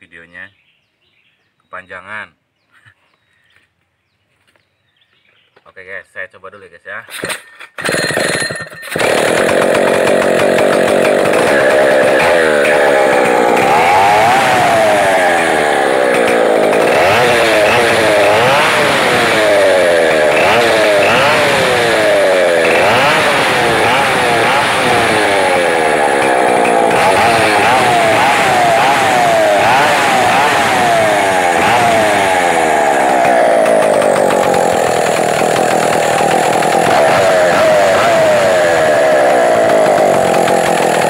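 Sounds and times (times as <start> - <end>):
chainsaw engine revving: 7.1 - 41.0.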